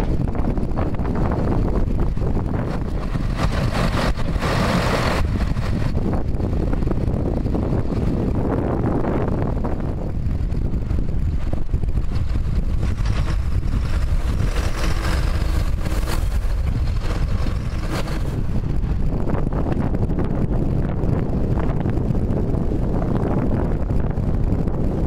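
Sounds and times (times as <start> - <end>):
tractors running: 0.0 - 25.0
wind rumbling on microphone: 0.0 - 25.0.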